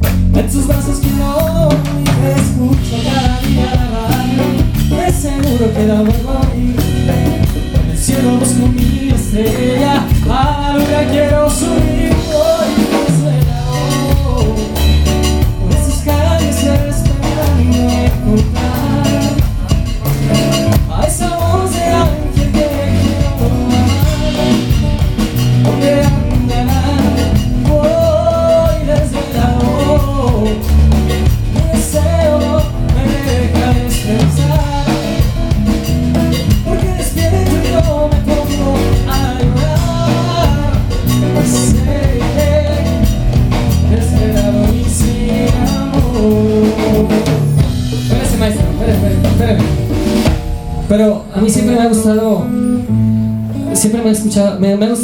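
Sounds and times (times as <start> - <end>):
person singing: 0.0 - 50.3, 50.9 - 55.0
congas: 0.0 - 55.0
live latin band: 0.0 - 55.0.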